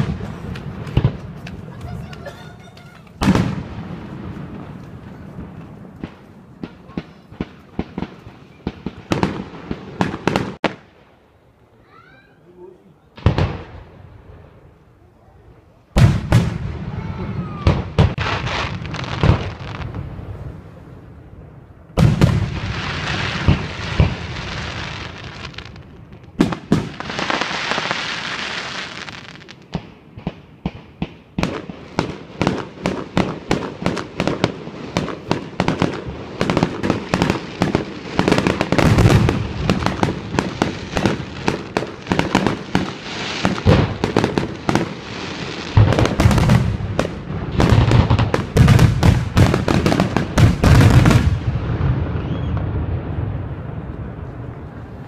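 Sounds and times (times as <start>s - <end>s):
fireworks hissing crackle: 0.0s - 11.1s, 16.0s - 21.1s, 22.0s - 55.0s.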